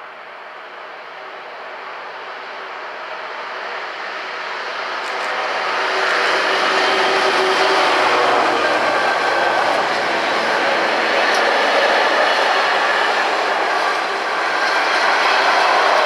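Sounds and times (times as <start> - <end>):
diesel locomotive engine: 0.0 - 16.0.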